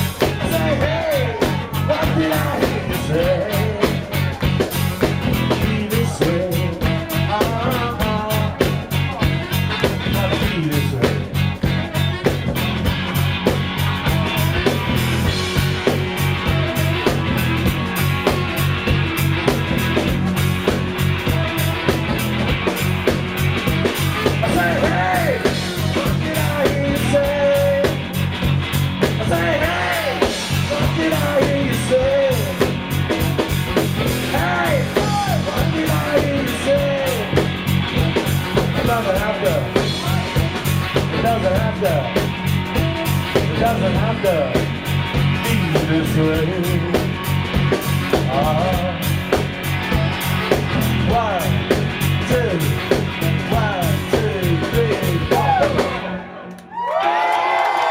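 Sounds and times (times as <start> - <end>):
sliding melodic lead line: 0.0 - 56.4
live rock band playing: 0.0 - 56.6
electric guitar notes bending: 0.0 - 56.7.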